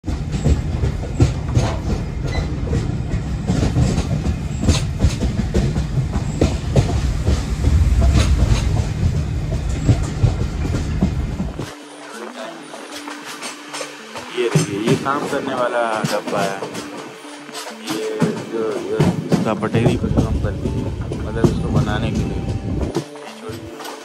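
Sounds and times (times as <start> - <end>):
train rumbling on track: 0.0 - 24.0
wheels clacking over rails: 0.0 - 24.0.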